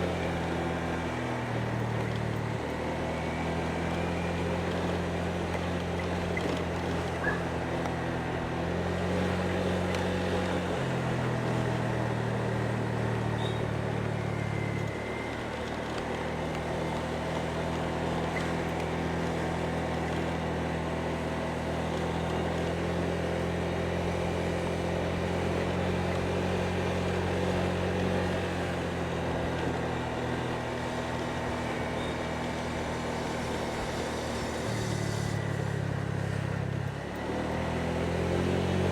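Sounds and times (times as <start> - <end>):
motorbike engine running: 0.0 - 38.9
wind and road noise: 0.0 - 38.9.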